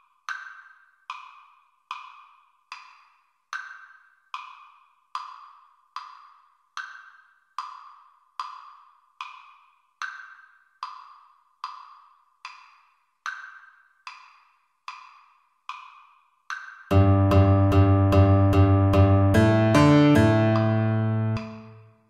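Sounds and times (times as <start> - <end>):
metronome clicking: 0.3 - 21.8.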